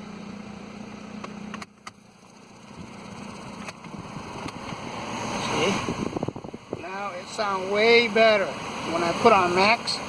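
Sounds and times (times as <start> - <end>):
blower fan humming: 0.0 - 10.0.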